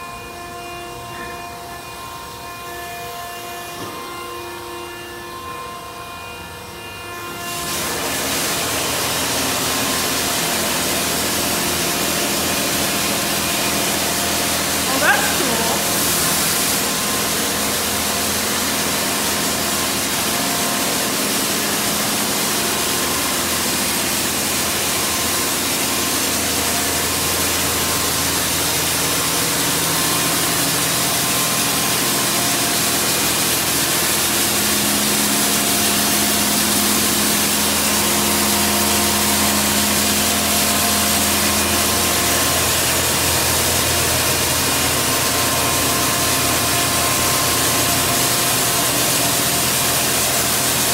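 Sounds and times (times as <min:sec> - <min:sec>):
steady mechanical hum: 0:00.0 - 0:50.9
water spraying with hiss: 0:07.6 - 0:50.9.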